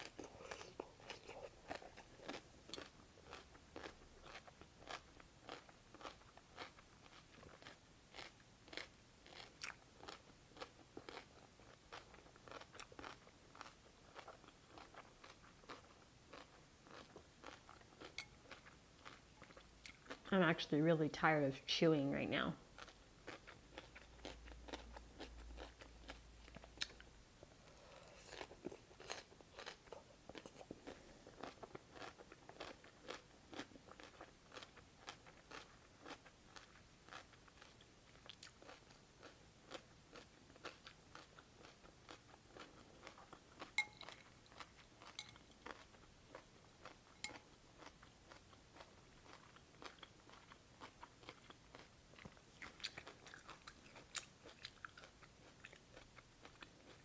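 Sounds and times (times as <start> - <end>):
chewing crunchy cucumber: 0.0 - 20.7, 22.5 - 57.0.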